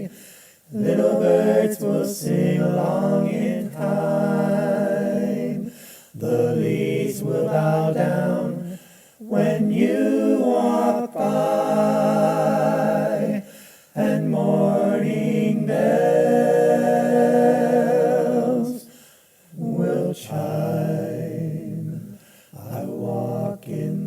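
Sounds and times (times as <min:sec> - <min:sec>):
a cappella male singing: 0:00.7 - 0:18.9, 0:19.6 - 0:24.0.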